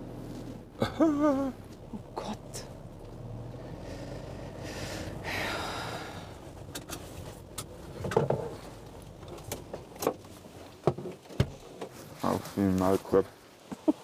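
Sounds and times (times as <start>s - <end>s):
van cabin noise: 0.0s - 14.0s.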